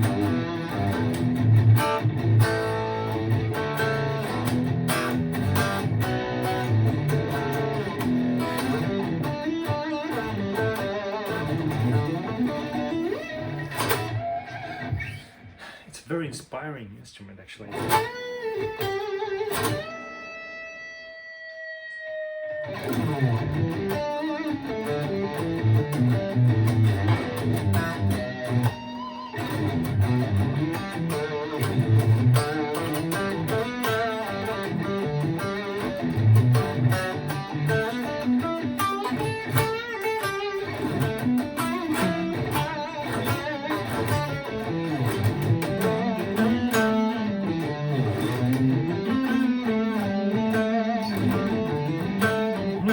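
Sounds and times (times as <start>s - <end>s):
electric guitar through amp: 0.0s - 16.0s, 17.6s - 52.9s.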